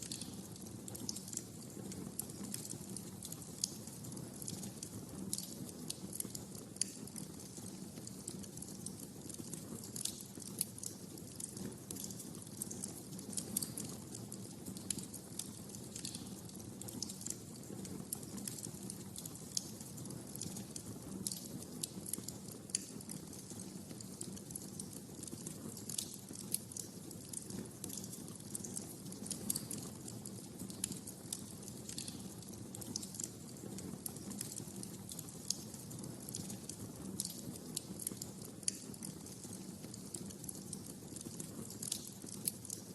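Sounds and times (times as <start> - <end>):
sharp pops and snaps: 0.0 - 42.9
wood fire crackling: 0.0 - 42.9.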